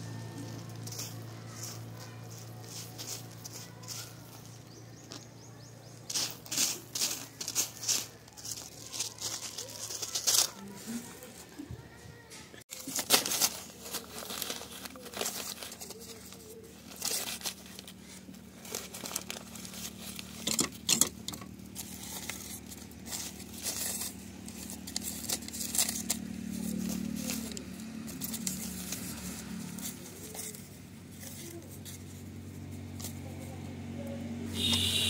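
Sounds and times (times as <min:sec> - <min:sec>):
paper rustling and crinkling: 0:00.2 - 0:05.2, 0:06.0 - 0:33.4.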